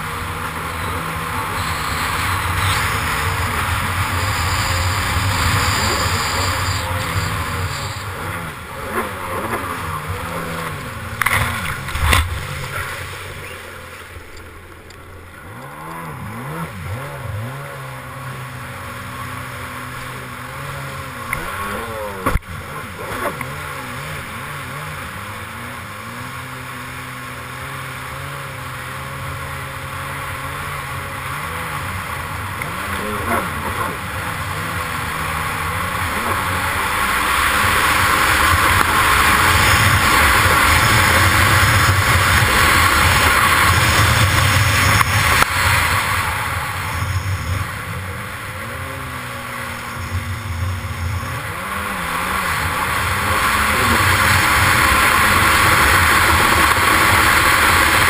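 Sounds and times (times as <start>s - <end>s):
jet ski engine revving: 0.0s - 58.0s
rushing water and spray: 0.0s - 58.0s.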